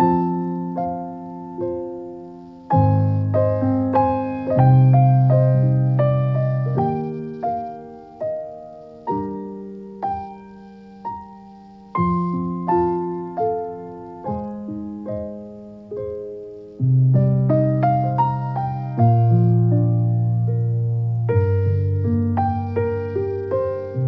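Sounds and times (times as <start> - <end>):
slow solo piano: 0.0 - 24.0.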